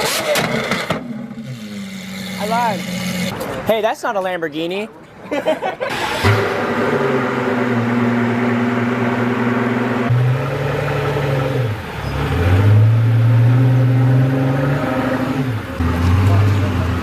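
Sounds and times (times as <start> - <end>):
car engine revving: 0.0 - 3.4, 5.9 - 17.0.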